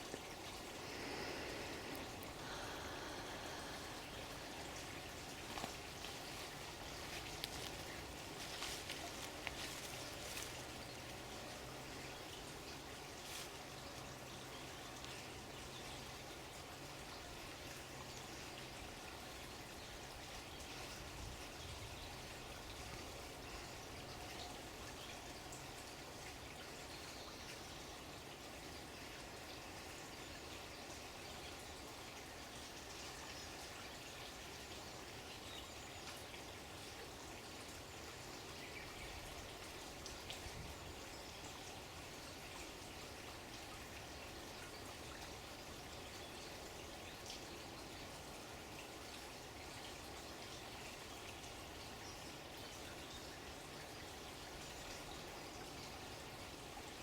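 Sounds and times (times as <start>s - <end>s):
water flowing steadily: 0.0s - 57.0s.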